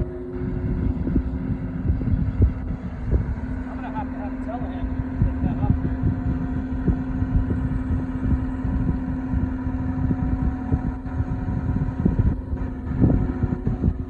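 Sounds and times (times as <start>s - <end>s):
loader engine running: 0.0s - 14.0s
low thumps: 0.0s - 14.0s.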